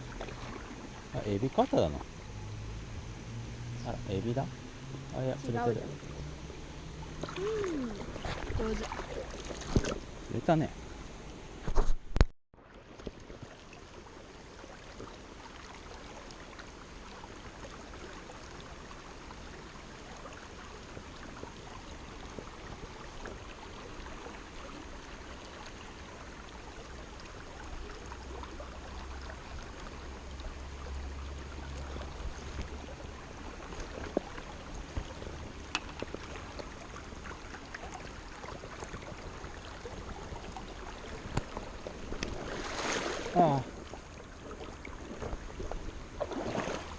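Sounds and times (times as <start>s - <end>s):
river water rushing over shallows: 0.0s - 11.5s, 12.6s - 46.9s.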